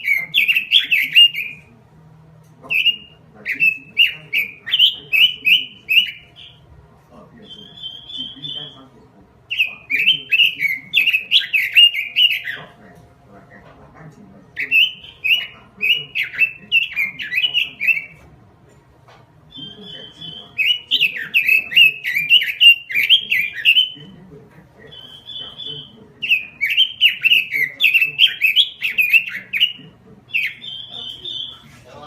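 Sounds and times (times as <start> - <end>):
bird warbling: 0.0 - 1.7, 2.6 - 18.3, 19.5 - 32.0.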